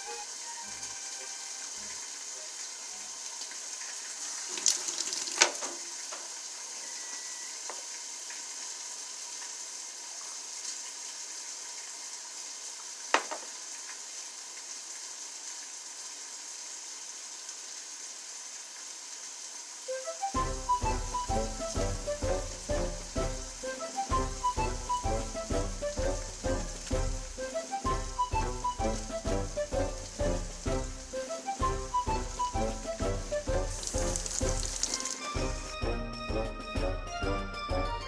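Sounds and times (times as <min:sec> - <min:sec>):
high sizzling hiss: 0:00.0 - 0:37.8.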